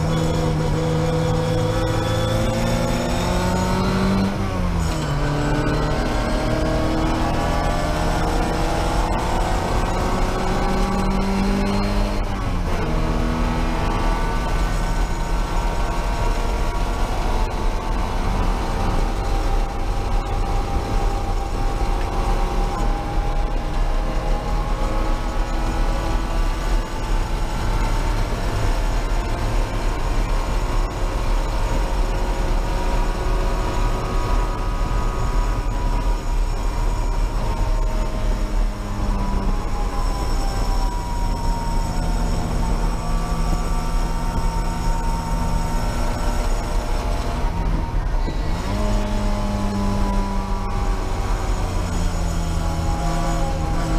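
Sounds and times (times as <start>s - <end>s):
race car engine at high revs: 0.0s - 53.9s.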